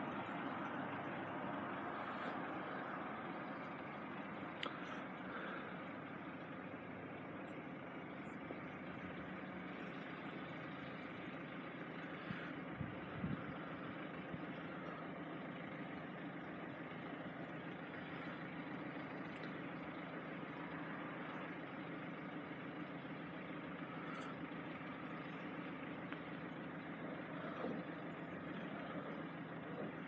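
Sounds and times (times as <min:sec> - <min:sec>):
vehicle engines idling: 0:00.0 - 0:30.0.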